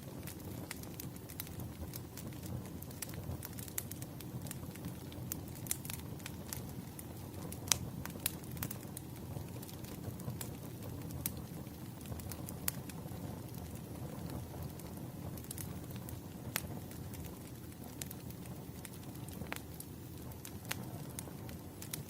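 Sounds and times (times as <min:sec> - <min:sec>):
firewood crackling and popping: 0:00.0 - 0:22.0
low rush of flames: 0:00.0 - 0:22.0.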